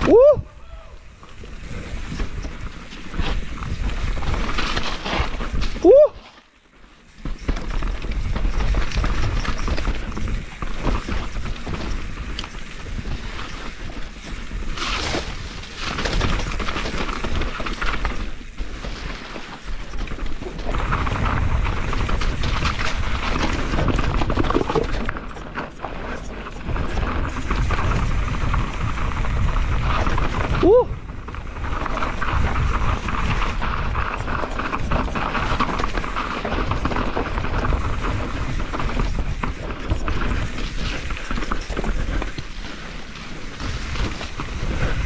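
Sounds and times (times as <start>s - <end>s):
bike tyres on mud: 0.0s - 45.0s.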